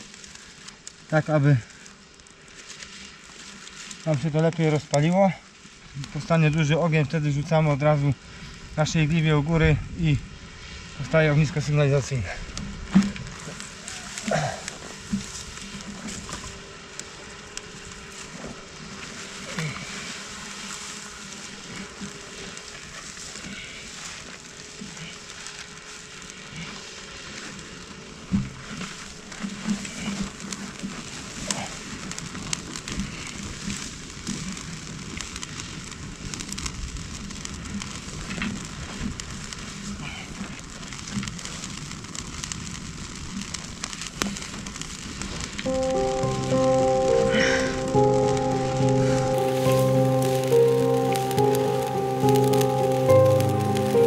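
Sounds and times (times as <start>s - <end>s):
wood fire crackling and hissing: 0.0s - 54.0s.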